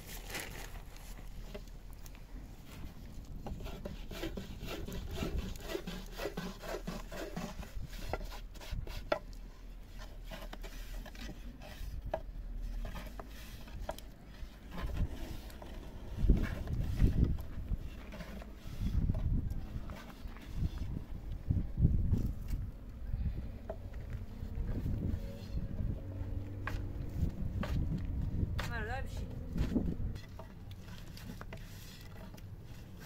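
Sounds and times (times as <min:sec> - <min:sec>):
rubbing and scraping: 0:00.0 - 0:33.0.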